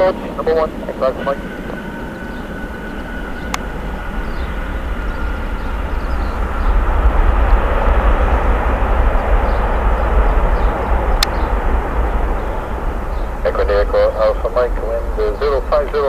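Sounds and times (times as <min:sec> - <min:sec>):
jet engines rushing and rumbling: 0:00.0 - 0:16.0.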